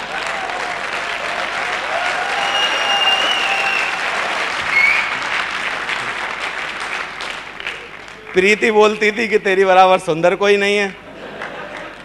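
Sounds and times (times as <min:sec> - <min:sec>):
audience applauding: 0:00.0 - 0:09.0, 0:11.2 - 0:12.0.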